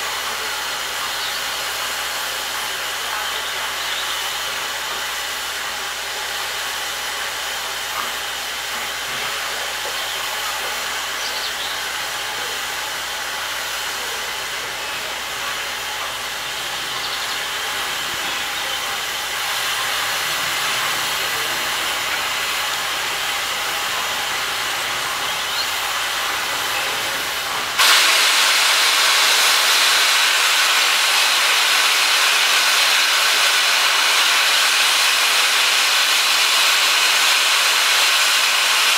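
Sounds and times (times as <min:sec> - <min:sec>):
steam locomotive hissing: 0:00.0 - 0:38.9.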